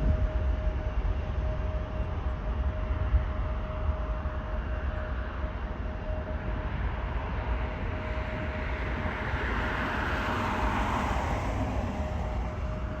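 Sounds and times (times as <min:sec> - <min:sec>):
jet engine takeoff roar: 0:00.0 - 0:13.0.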